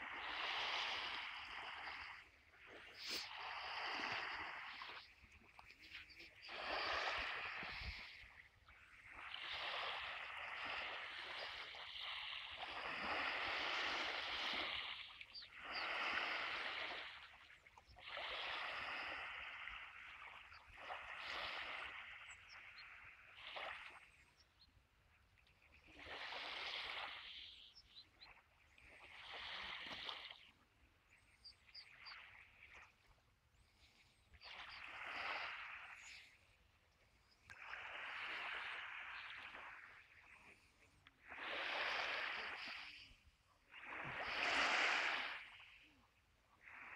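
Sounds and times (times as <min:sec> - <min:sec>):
small waves washing on beach: 0:00.0 - 0:46.9.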